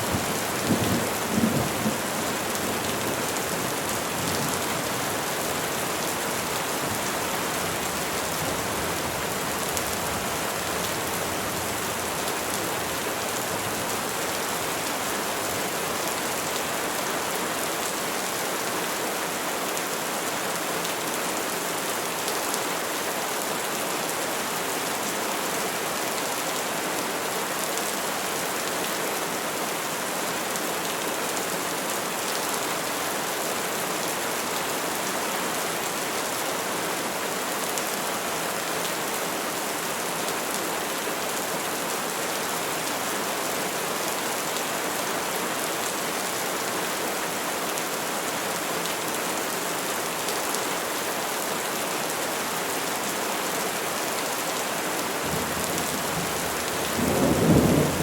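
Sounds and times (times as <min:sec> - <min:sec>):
rain falling on trees: 0:00.0 - 0:58.0.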